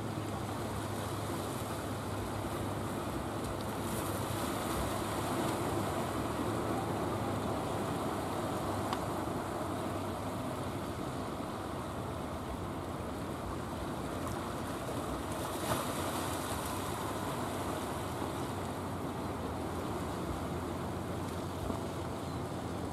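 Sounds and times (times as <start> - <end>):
boat engine humming: 0.0 - 22.9
sea surf: 0.0 - 22.9.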